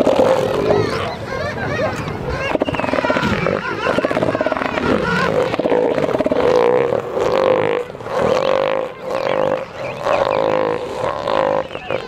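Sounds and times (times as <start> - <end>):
elephant seals calling: 0.0 - 12.0.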